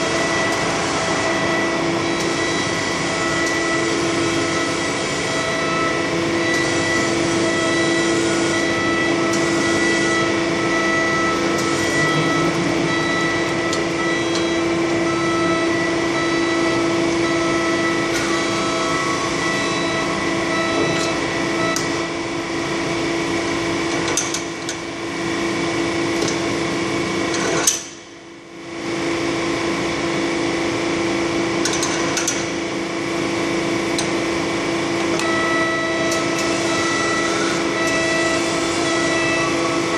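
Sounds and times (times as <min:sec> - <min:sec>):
industrial machine hum and whine: 0:00.0 - 0:39.9.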